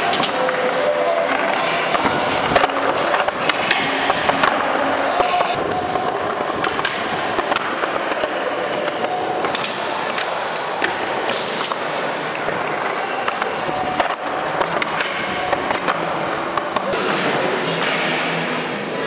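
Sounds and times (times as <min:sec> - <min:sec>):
skateboard clacks: 0:00.0 - 0:18.4
skateboard wheels rolling on concrete: 0:00.0 - 0:18.5.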